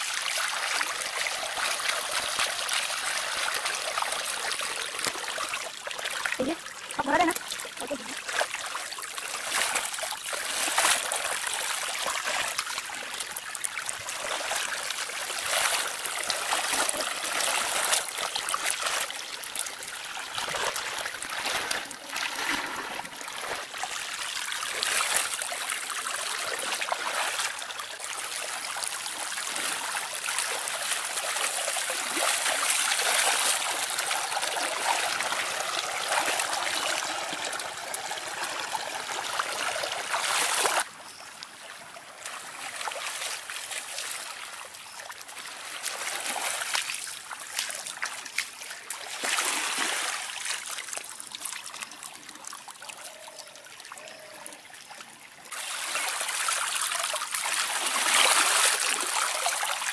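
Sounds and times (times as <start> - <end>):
water flowing and splashing: 0.0 - 59.9.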